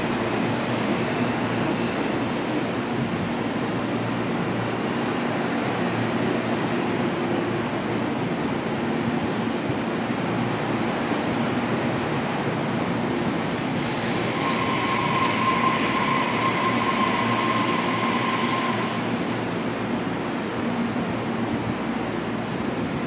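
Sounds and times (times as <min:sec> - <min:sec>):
electric train running slowly: 0:00.0 - 0:23.0.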